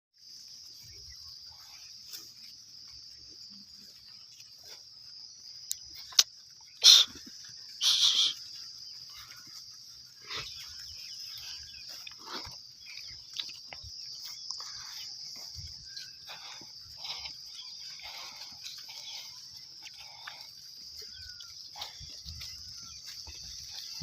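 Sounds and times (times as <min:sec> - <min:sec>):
insect chirring: 0:00.2 - 0:24.0.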